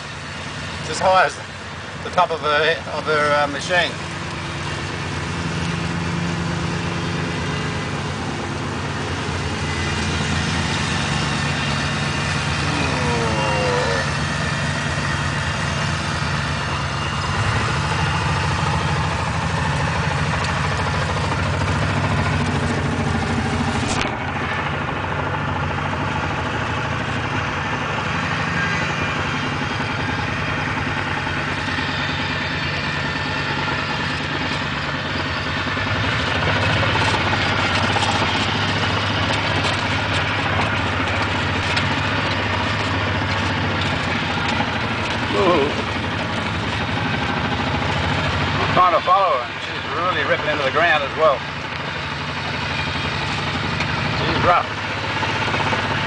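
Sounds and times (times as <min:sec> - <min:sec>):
diesel mower running: 0:00.0 - 0:56.0
mower blades cutting dry grass: 0:02.2 - 0:25.1, 0:26.0 - 0:56.0.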